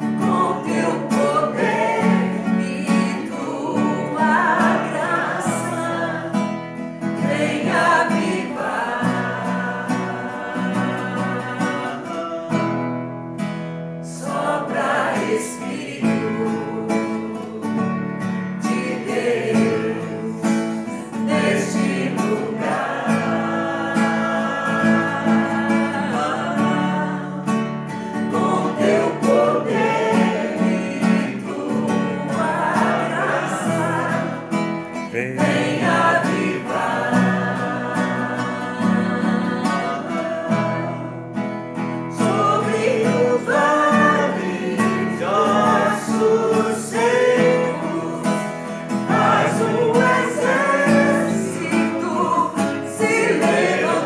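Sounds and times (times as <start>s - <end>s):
acoustic guitar: 0.0s - 54.0s
group of voices singing: 0.0s - 54.0s.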